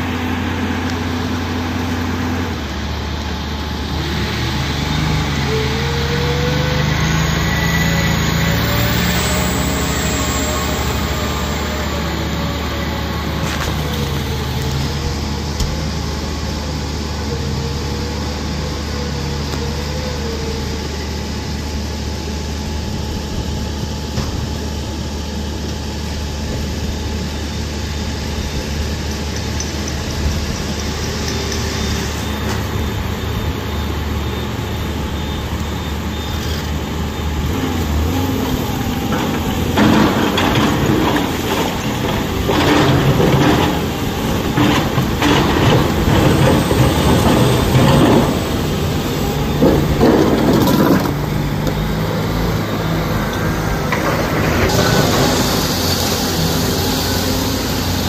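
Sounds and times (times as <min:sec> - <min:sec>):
diesel truck engines droning: 0:00.0 - 0:58.0.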